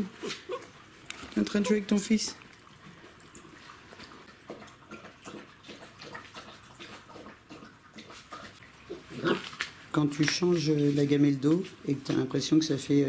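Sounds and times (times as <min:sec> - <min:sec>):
puppies lapping water: 0:00.0 - 0:10.6.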